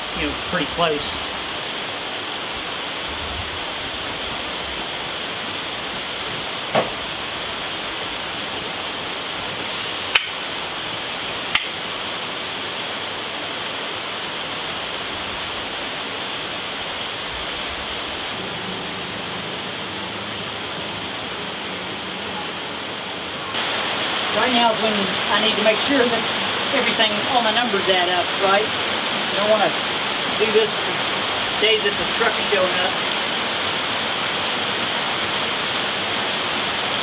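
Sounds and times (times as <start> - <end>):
stream rushing: 0.0 - 37.0.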